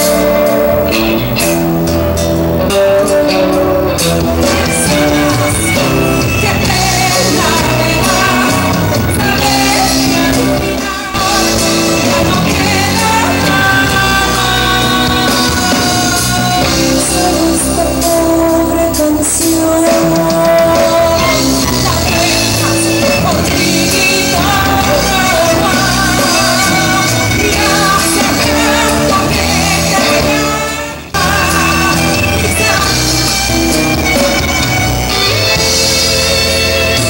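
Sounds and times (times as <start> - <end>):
folk band playing: 0.0 - 37.0
woman singing: 2.9 - 33.5.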